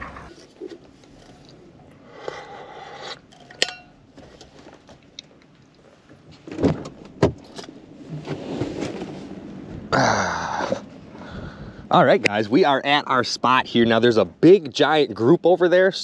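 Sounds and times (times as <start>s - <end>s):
rush of outside wind: 0.0s - 16.0s.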